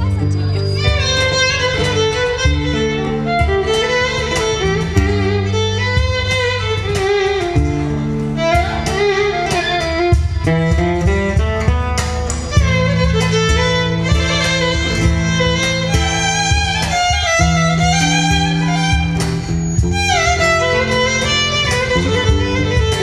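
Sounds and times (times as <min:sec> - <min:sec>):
cajon beating rhythm: 0:00.0 - 0:23.0
strummed acoustic guitar: 0:00.0 - 0:23.0
violin melody: 0:00.0 - 0:23.0.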